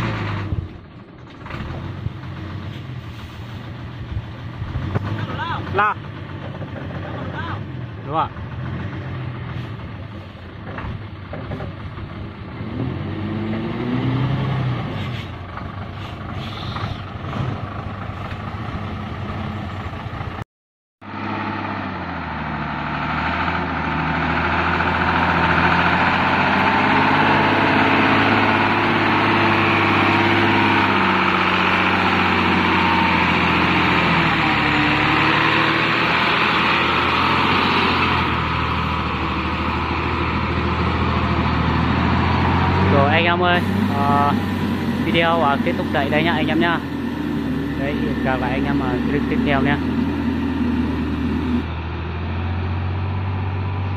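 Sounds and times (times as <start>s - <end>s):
diesel truck engine running: 0.0s - 20.4s, 21.0s - 53.9s.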